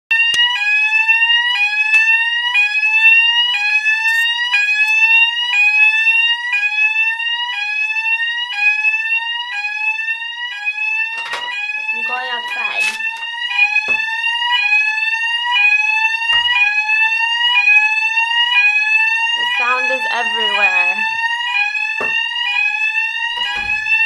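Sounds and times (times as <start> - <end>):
detector alarm rising tone: 0.1 - 24.0.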